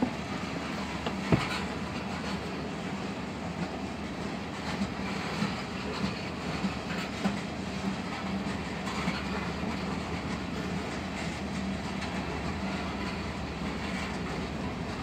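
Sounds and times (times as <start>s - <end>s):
train rumble: 0.0s - 15.0s
train wheels clacking over rail joints: 0.0s - 15.0s.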